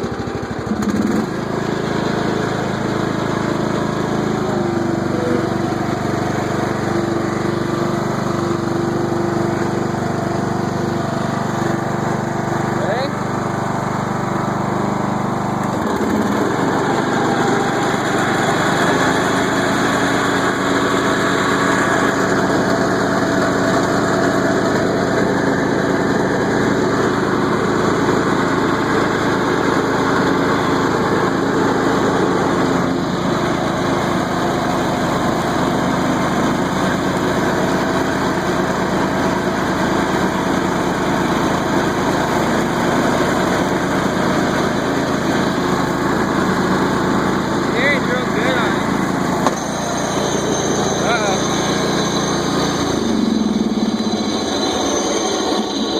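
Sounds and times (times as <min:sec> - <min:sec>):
riding lawn mower engine running: 0:00.0 - 0:55.9.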